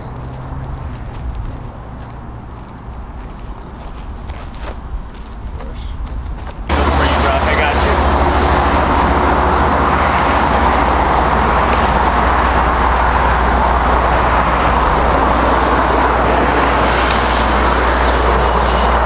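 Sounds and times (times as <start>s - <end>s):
road traffic roar: 0.0s - 19.0s.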